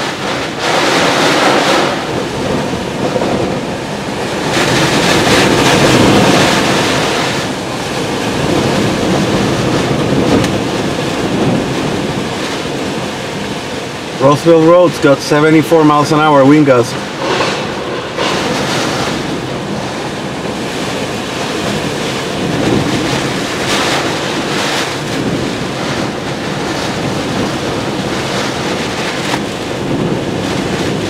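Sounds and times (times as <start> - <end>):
driving rain: 0.0 - 31.0
wind buffeting microphone: 0.0 - 31.0
wind gusting: 0.0 - 31.0.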